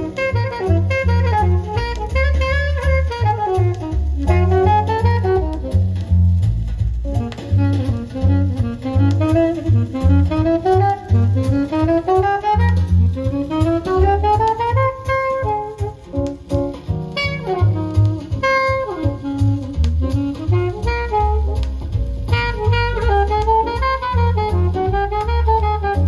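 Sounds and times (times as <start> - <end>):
saxophone: 0.0 - 26.0
walking double bass: 0.0 - 26.0.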